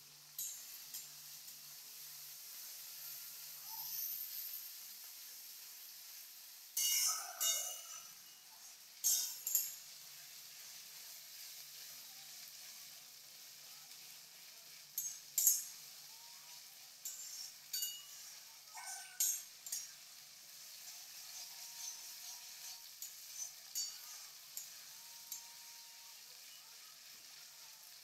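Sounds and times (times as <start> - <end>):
food sizzling in oil: 0.0 - 28.0
spatula scraping a wok: 0.3 - 28.0.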